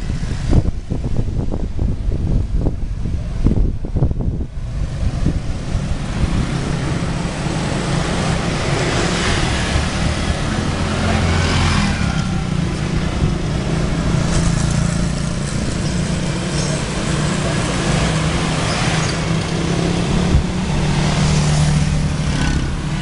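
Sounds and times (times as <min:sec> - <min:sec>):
scooter and motorcycle traffic: 0:00.0 - 0:23.0.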